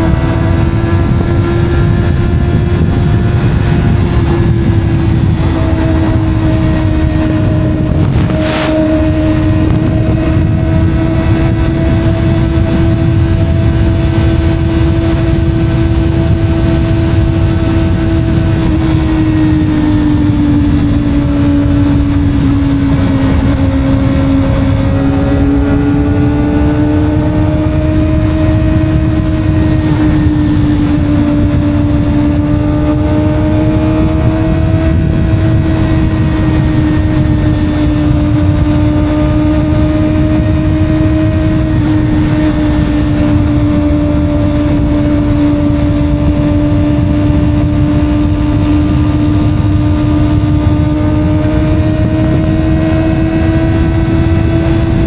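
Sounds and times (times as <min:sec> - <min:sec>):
motorcycle engine at speed: 0:00.0 - 0:55.0
wind and road noise: 0:00.0 - 0:55.0.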